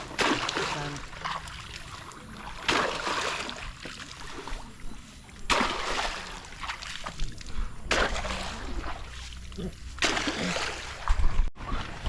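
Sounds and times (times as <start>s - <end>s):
water sloshing: 0.0s - 12.0s
water splashing: 0.0s - 12.0s.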